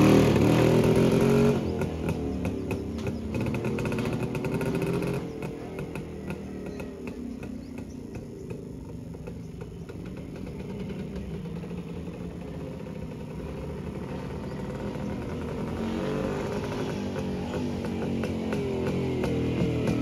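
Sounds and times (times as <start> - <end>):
motorcycle engine approaching: 0.0 - 20.0.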